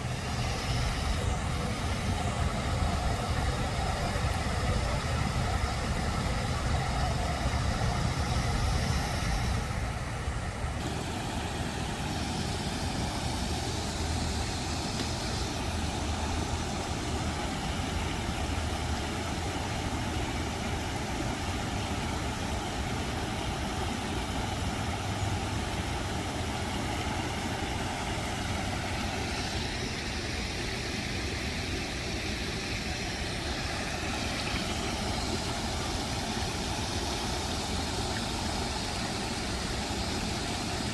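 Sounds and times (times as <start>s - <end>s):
waterfall pouring into pond: 0.0s - 9.7s, 10.8s - 40.9s.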